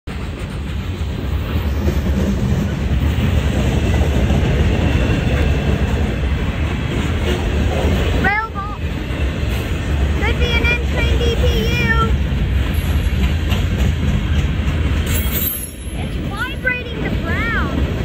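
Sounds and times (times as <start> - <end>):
train wheels rumbling on rails: 0.1 - 18.0.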